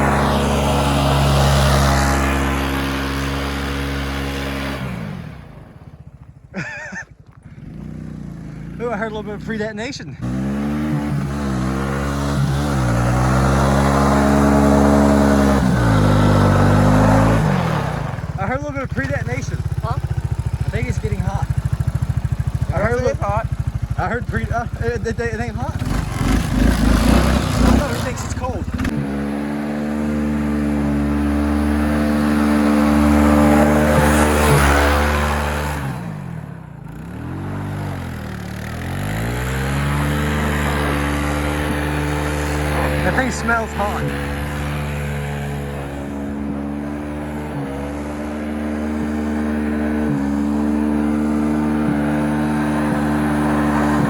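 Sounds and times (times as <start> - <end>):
engine pulling at high revs: 0.0 - 54.0.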